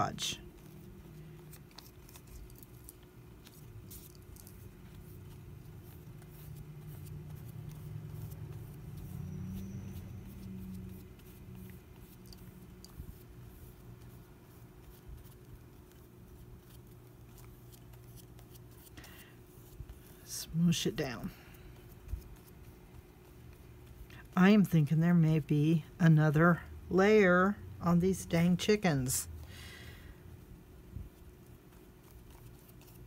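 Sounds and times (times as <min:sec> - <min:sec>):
glue brush strokes on paper: 0:00.0 - 0:25.6, 0:31.0 - 0:33.0
electric fan humming: 0:00.0 - 0:33.0.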